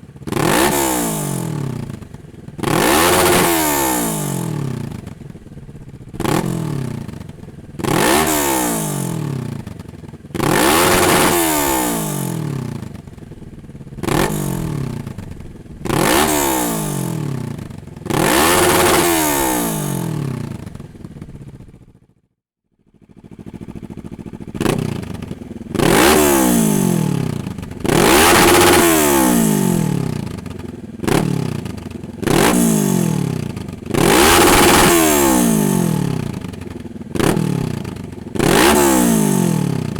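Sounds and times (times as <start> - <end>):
motorcycle engine revving: 0.0 - 22.2, 22.8 - 39.9.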